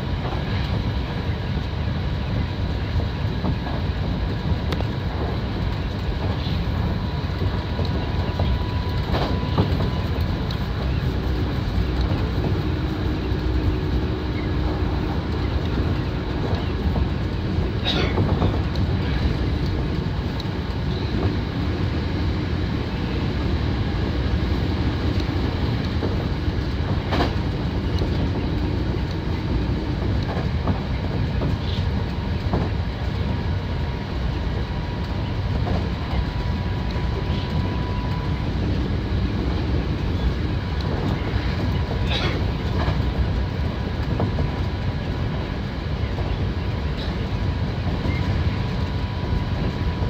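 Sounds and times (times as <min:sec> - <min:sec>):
train wheels rumbling: 0:00.0 - 0:50.0
wheels clicking over rail joints: 0:00.0 - 0:50.0.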